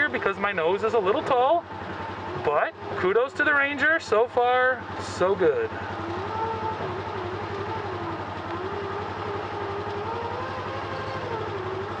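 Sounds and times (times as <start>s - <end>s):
vehicle engine hum with whine: 0.0s - 12.0s.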